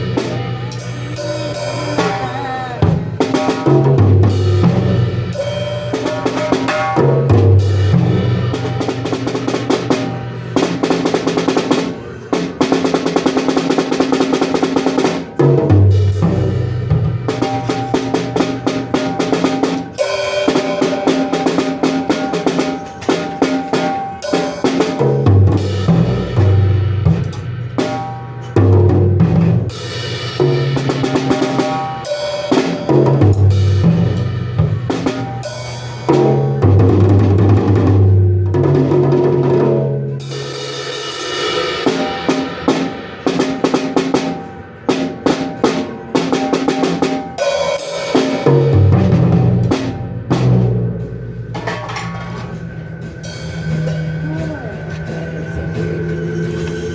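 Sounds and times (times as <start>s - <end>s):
drum kit playing fast patterns: 0.0s - 56.9s.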